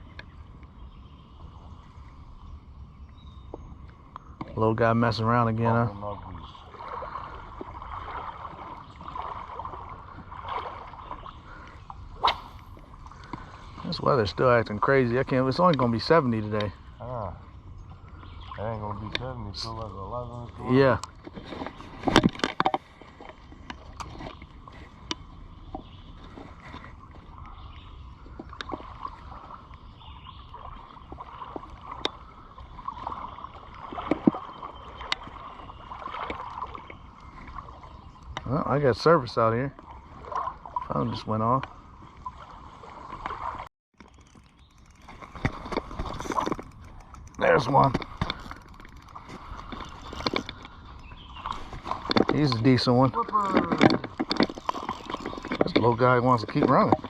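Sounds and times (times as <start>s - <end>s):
creek water gurgling: 3.9s - 57.0s
small clicks and splashes: 6.4s - 16.8s, 17.9s - 57.0s.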